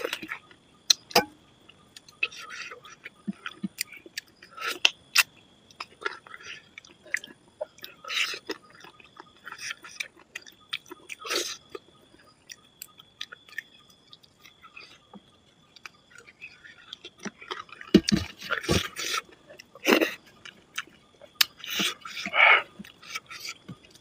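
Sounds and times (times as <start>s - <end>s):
man chewing and lip smacking: 0.0s - 24.0s.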